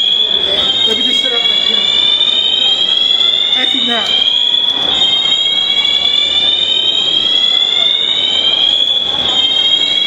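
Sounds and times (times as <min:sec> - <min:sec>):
fire alarm rising tone: 0:00.0 - 0:10.0.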